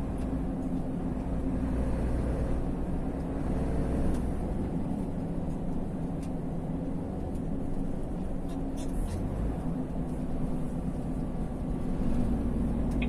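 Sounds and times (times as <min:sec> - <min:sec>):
low constant hum: 0:00.0 - 0:13.0
road noise: 0:00.0 - 0:13.0
vehicle engine drone: 0:00.0 - 0:13.0.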